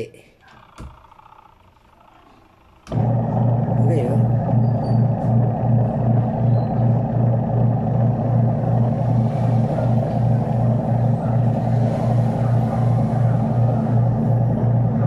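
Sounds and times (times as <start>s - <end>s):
washing machine motor humming: 0.4s - 15.0s.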